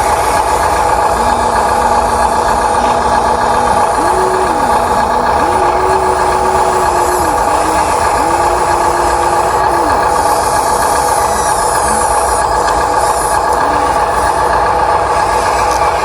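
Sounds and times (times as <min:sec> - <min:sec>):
electric motor whine: 0:00.0 - 0:16.0
engine-like hum: 0:00.0 - 0:16.0.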